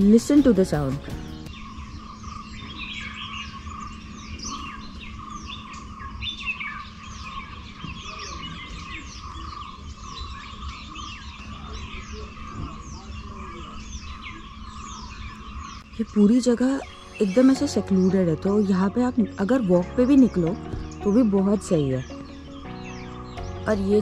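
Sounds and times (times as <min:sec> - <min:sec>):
steady high drone: 0:00.0 - 0:07.8, 0:08.6 - 0:24.0
birds chirping: 0:00.0 - 0:24.0.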